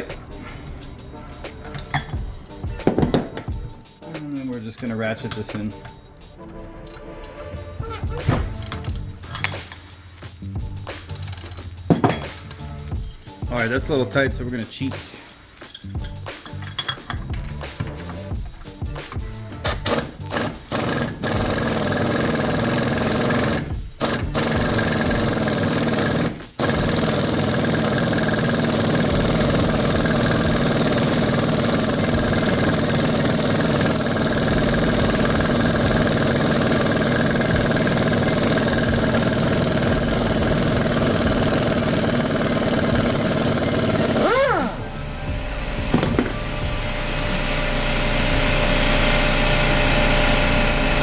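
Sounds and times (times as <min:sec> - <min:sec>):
impact wrench running: 0:00.0 - 0:14.4, 0:15.6 - 0:51.0.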